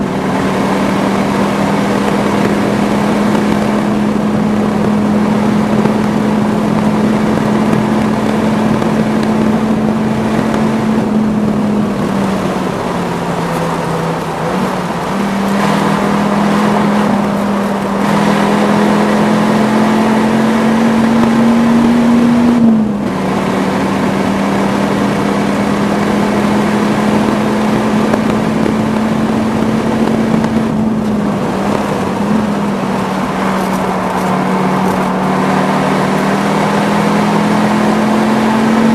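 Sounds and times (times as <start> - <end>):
car engine revving from inside cabin: 0.0 - 38.9.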